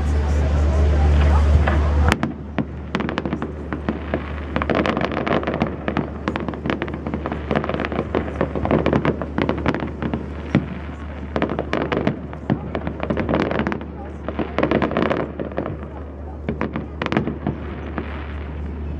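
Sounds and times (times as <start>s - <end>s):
fireworks cracking and banging: 0.0s - 18.9s.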